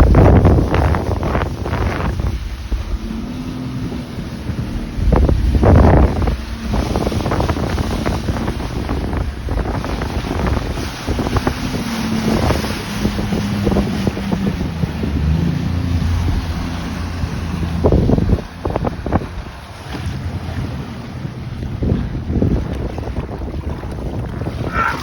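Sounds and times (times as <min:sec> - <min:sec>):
boat motor running: 0:00.0 - 0:25.0
wind buffeting microphone: 0:00.0 - 0:25.0.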